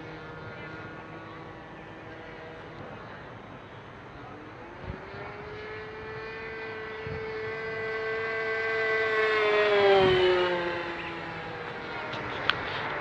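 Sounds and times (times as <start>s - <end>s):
model airplane engine flying past: 0.0s - 13.0s.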